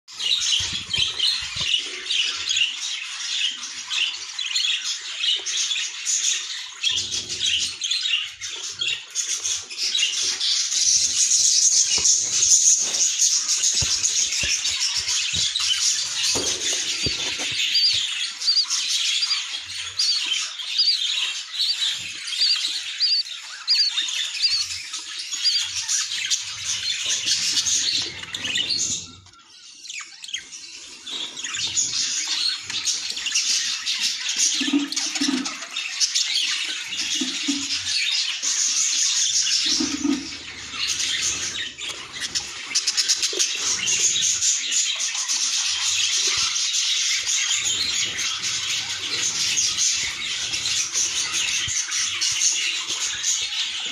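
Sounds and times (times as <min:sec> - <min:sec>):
budgerigars chirping and chattering: 0:00.1 - 0:53.9.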